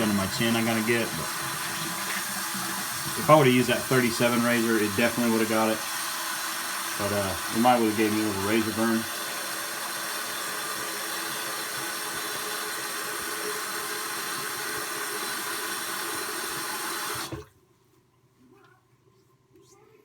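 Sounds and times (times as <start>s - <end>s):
tap water running: 0.0s - 17.5s.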